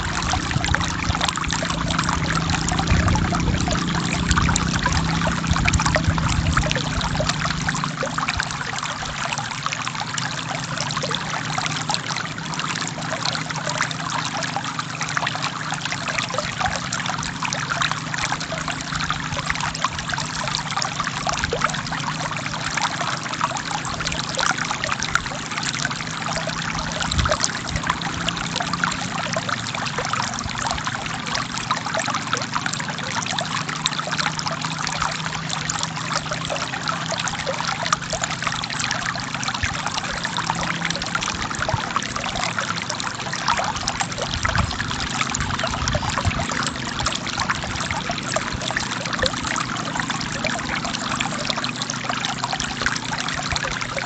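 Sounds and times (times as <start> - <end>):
stream flowing with splashes: 0.0 - 54.0.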